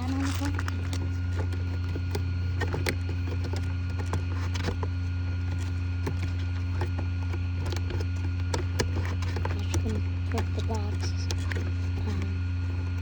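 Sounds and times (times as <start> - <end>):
blower fan humming: 0.0 - 13.0.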